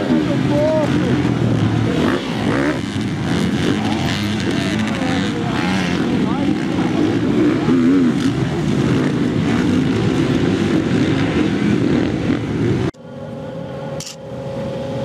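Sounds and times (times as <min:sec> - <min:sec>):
dirt bike engine revving: 0:00.0 - 0:12.9
steady hum: 0:00.0 - 0:15.0.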